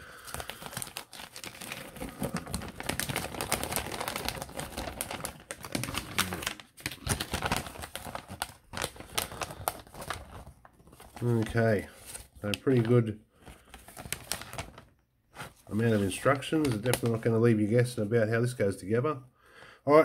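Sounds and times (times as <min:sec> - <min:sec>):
paper crinkling and rustling: 0:00.0 - 0:17.4.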